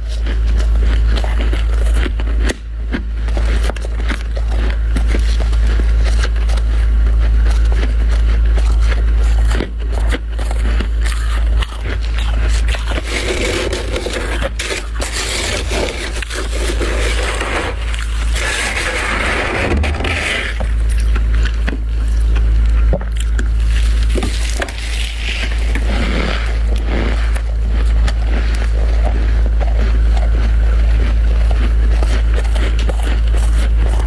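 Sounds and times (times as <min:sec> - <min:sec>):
frost scraping and crunching: 0:00.0 - 0:34.0
steady low hum: 0:00.0 - 0:34.0.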